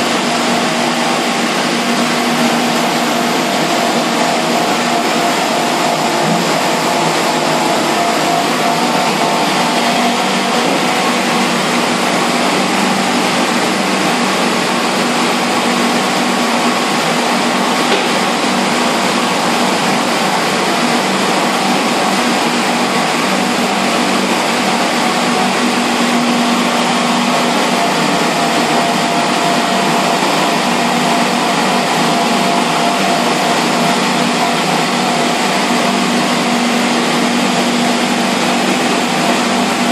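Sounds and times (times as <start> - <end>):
machine hum: 0.0 - 39.9
water churning in a tank: 0.0 - 39.9.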